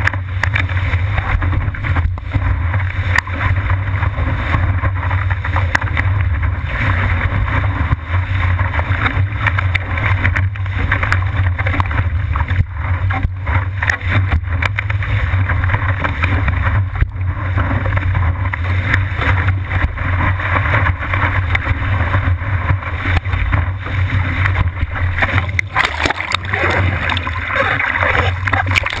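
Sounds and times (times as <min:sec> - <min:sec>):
water rushing and spraying: 0:00.0 - 0:29.0.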